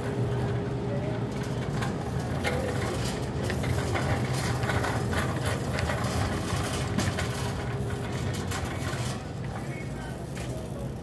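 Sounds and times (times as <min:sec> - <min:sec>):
shopping cart rattling: 0:00.1 - 0:11.0.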